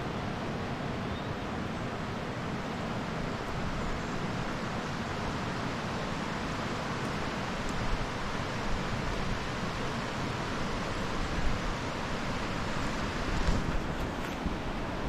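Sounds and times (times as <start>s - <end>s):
fast-flowing water rushing: 0.0s - 15.0s.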